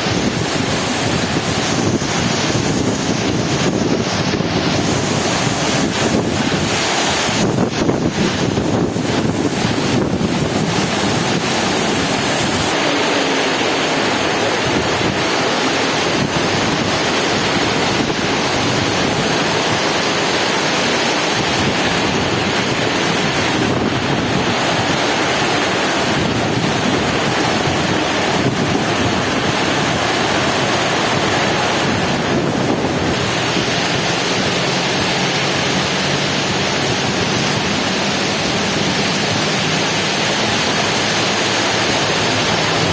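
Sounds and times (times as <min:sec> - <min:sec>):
heavy rain pouring: 0:00.0 - 0:42.9
wind buffeting microphone: 0:00.0 - 0:42.9.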